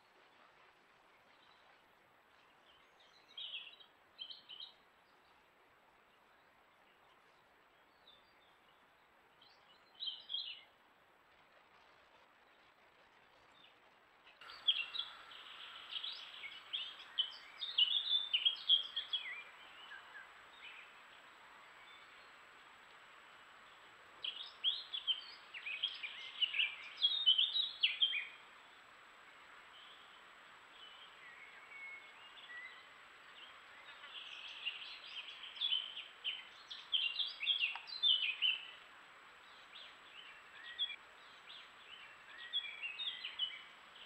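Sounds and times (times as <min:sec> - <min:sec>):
faint hiss: 0:00.0 - 0:44.0
small birds chirping: 0:02.4 - 0:05.3, 0:06.3 - 0:10.8, 0:13.3 - 0:44.0.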